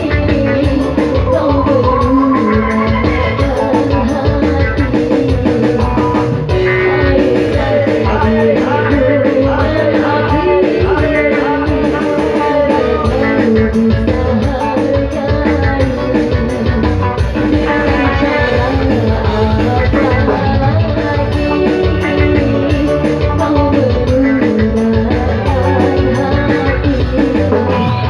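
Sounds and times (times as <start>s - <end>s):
drum beat: 0.0s - 27.7s
guitar: 0.0s - 28.0s
woman singing: 0.0s - 28.0s.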